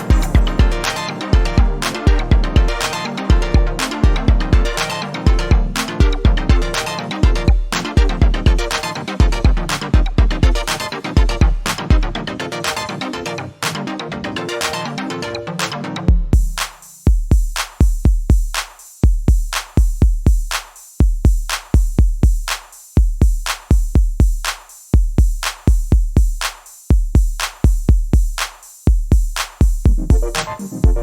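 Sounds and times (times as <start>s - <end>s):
drum machine kick beat: 0.0s - 13.8s, 15.6s - 31.0s.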